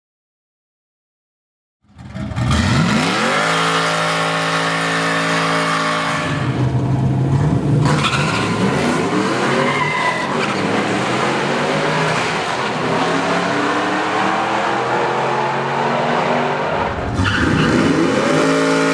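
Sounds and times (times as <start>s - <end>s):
car accelerating through gears: 2.0s - 18.9s
car engine revving: 2.0s - 18.9s.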